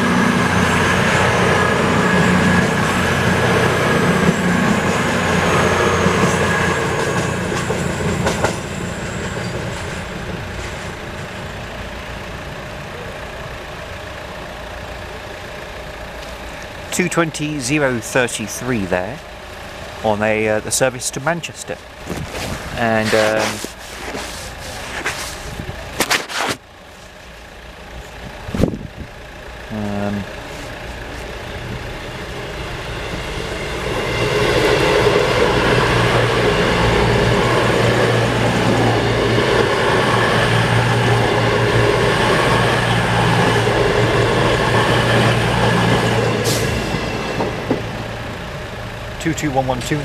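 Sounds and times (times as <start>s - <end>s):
diesel train passing: 0.0s - 50.0s.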